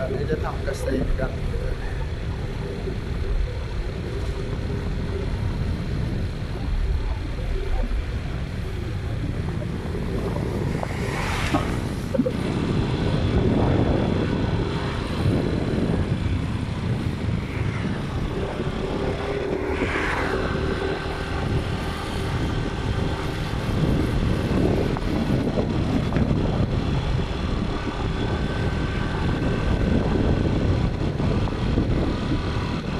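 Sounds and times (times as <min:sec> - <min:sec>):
vehicle engine and road noise: 0:00.0 - 0:32.9.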